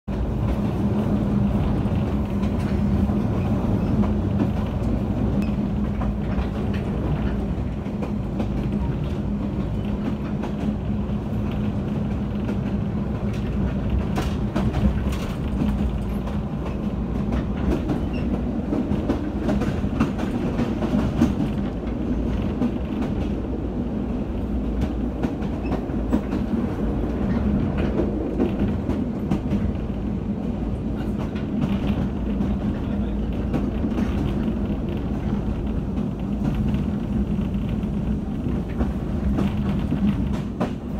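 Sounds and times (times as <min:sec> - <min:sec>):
train wheels rumbling on rail: 0:00.1 - 0:40.9
wheels clicking over rail joints: 0:01.4 - 0:40.9.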